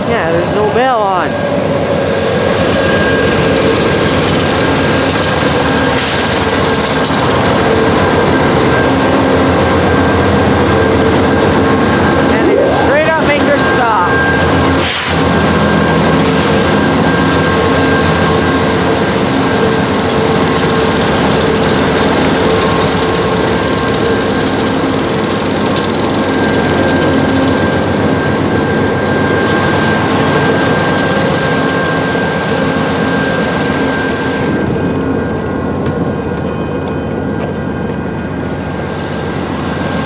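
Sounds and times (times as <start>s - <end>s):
diesel locomotive engine drone: 0.0s - 40.0s
steady whining tones: 0.0s - 40.0s.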